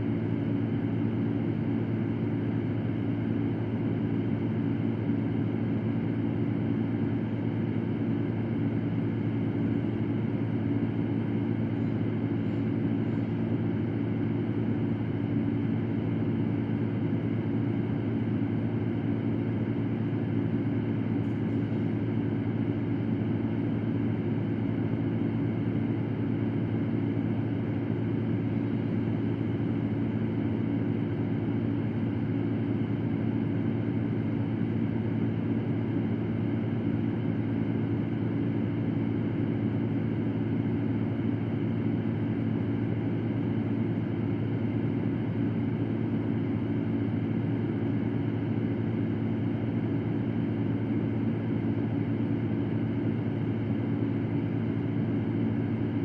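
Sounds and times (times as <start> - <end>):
fan running: 0.0 - 56.0.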